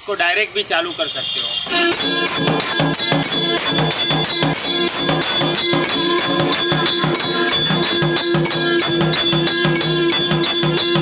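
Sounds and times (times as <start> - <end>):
drum beating: 1.7 - 11.0
temple bell and cymbal ringing: 1.7 - 11.0.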